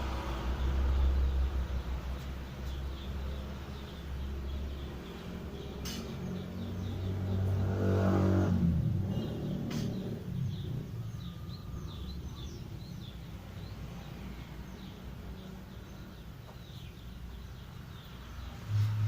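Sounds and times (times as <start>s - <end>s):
birds chirping: 0.0s - 19.0s
vehicle passing: 0.0s - 19.0s.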